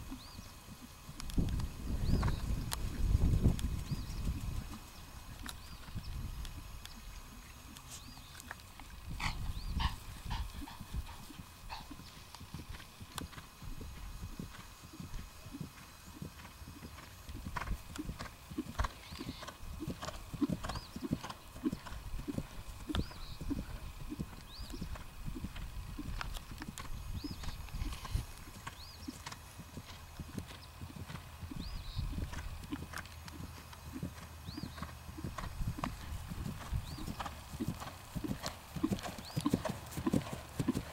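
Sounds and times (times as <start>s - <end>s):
horse hooves on grass: 0.0s - 40.9s.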